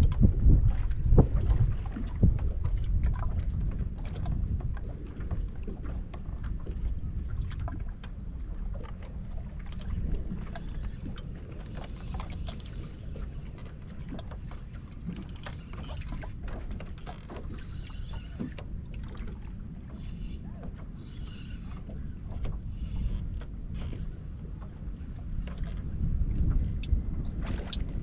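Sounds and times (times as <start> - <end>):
small clicks and splashes: 0.0 - 28.0
water lapping at boat hull: 0.0 - 28.0
wind buffeting microphone: 0.0 - 28.0.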